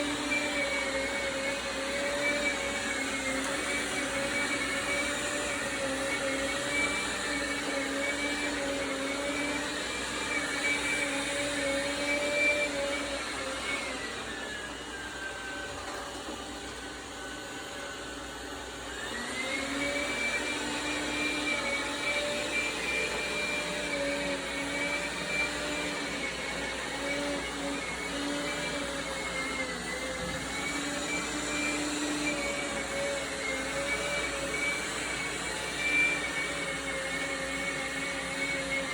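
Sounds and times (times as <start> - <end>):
robot vacuum fan whining: 0.0 - 38.9.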